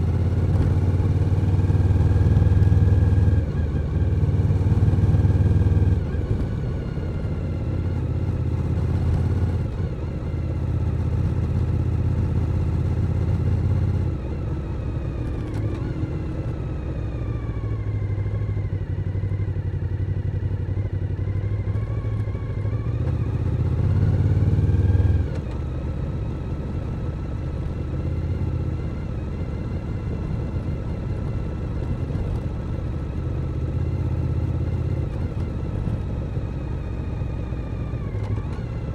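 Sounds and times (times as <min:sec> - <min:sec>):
motorcycle engine running: 0:00.0 - 0:16.9, 0:17.5 - 0:38.9.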